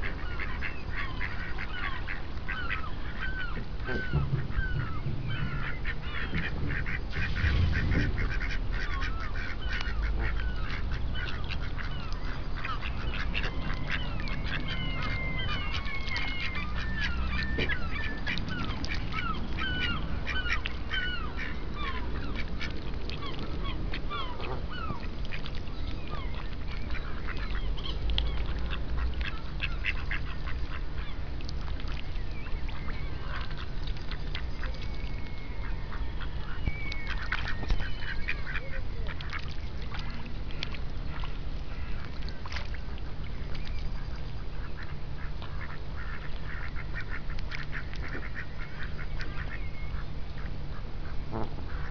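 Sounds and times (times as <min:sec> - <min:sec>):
ducks quacking: 0:00.0 - 0:51.9
geese calling: 0:00.0 - 0:51.9.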